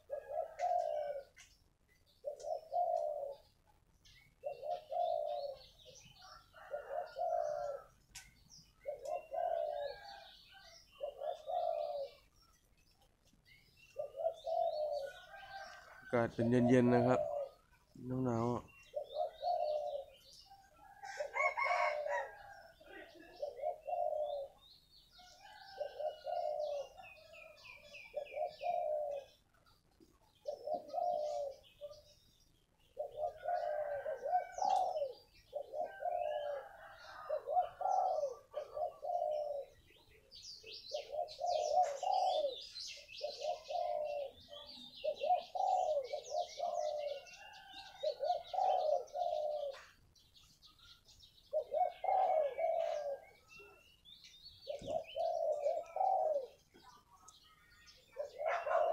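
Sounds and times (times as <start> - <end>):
dove cooing: 0.0 - 58.9
small birds chirping: 0.0 - 58.9.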